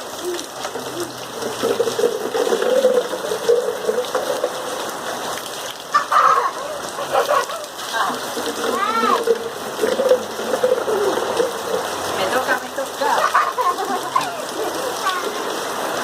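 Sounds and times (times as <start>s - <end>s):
water gushing and splashing: 0.0s - 16.0s.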